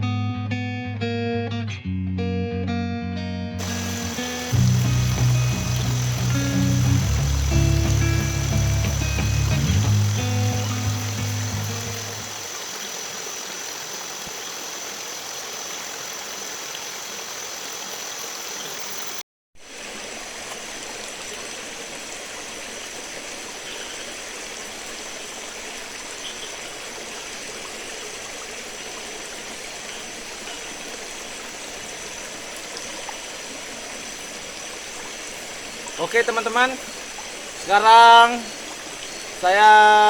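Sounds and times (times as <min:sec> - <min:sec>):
river rushing: 0:03.6 - 0:18.8, 0:19.6 - 0:40.0.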